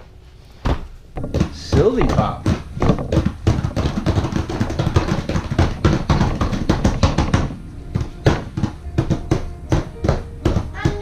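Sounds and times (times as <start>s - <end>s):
rapid knocks and taps: 1.2s - 11.0s.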